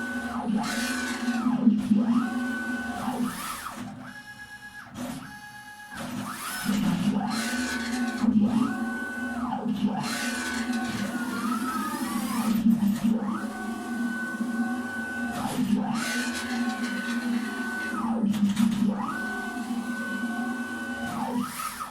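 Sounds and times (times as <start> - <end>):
cnc motor whine: 0.0 - 21.9.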